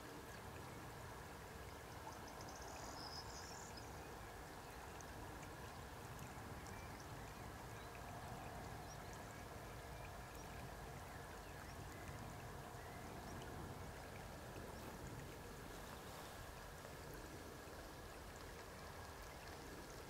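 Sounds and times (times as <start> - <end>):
faint outdoor hiss: 0.0 - 20.0.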